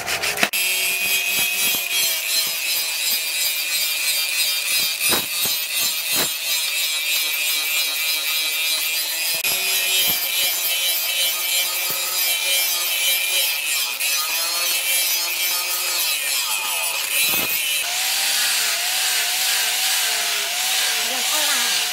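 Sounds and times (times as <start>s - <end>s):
grinder motor hum: 0.0s - 21.9s.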